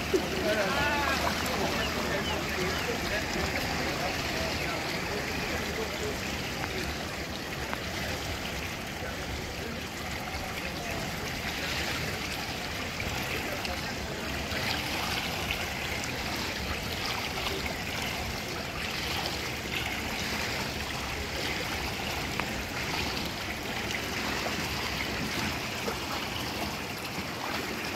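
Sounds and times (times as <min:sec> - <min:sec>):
rushing water underwater: 0:00.0 - 0:27.9.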